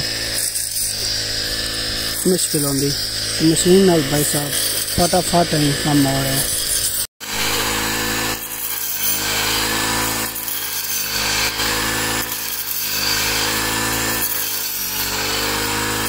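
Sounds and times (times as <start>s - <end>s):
small petrol engine running: 0.0s - 16.0s.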